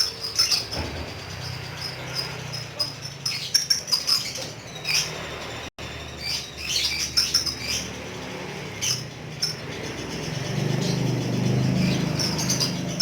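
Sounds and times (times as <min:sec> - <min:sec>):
lovebird chirping: 0:00.0 - 0:13.0.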